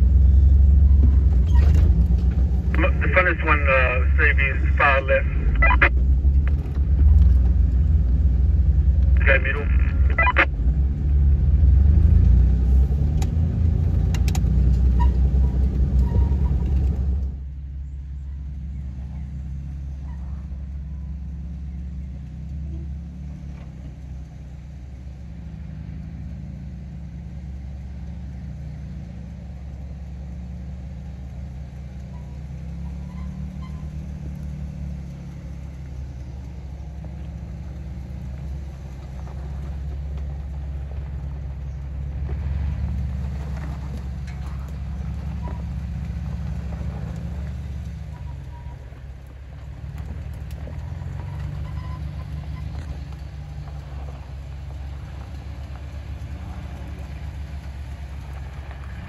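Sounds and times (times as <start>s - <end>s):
car engine rumbling at low revs: 0.0s - 59.0s.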